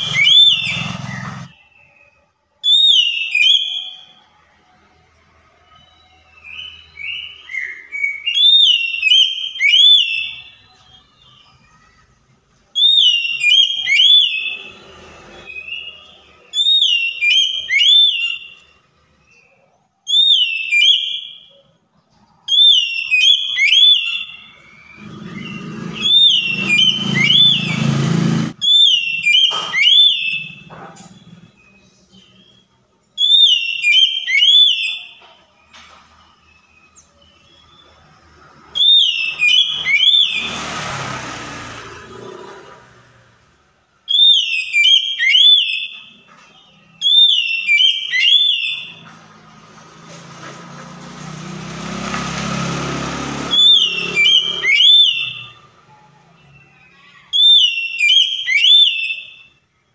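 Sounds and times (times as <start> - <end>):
magpie-robin whistled song: 0.0 - 28.0, 28.6 - 40.6, 44.0 - 49.2, 53.5 - 59.9.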